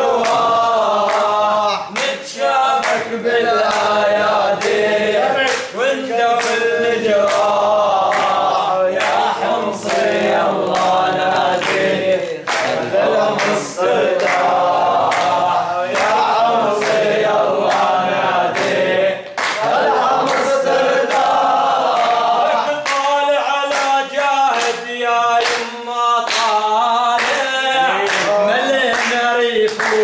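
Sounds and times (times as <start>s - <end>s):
hand claps: 0.0s - 30.0s
men singing unaccompanied: 0.0s - 30.0s.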